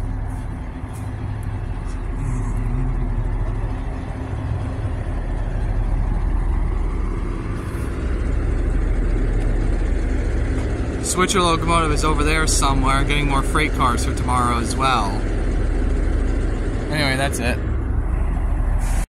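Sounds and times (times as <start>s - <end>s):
engine idling rumble: 0.0s - 19.0s
faint steady hum: 0.0s - 19.0s.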